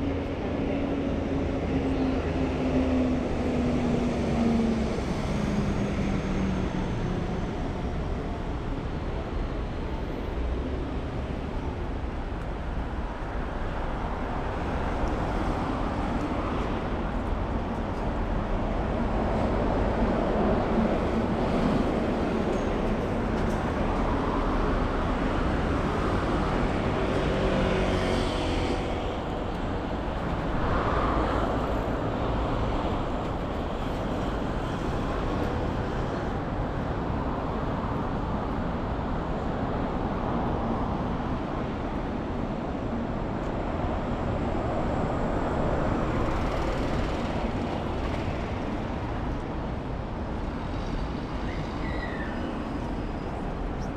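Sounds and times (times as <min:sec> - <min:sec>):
rumble of traffic: 0:00.0 - 0:53.9.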